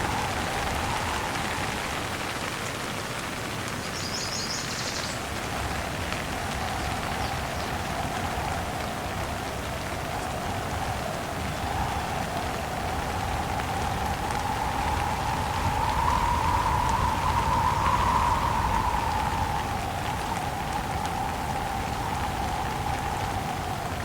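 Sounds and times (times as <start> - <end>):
wind whistling: 0.0 - 2.8, 4.1 - 24.0
heavy rain falling: 0.0 - 24.0.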